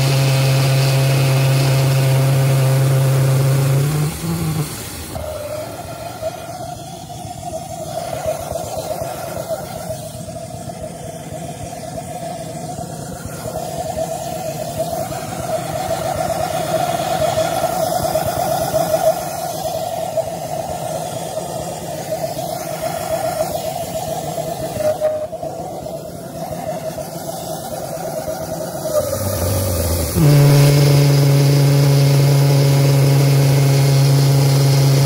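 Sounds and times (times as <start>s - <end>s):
jet engine buzzing roar: 0.0s - 35.0s
jet engine hiss: 0.0s - 35.0s.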